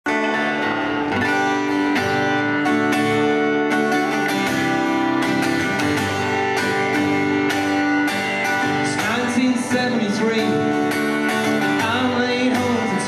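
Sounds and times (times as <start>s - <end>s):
plucked string instrument: 0.1s - 13.0s
strummed acoustic guitar: 0.1s - 13.0s.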